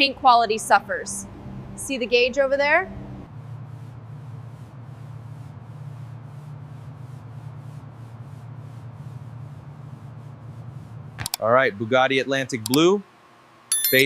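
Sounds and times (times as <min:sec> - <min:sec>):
low hum: 0:00.0 - 0:12.7.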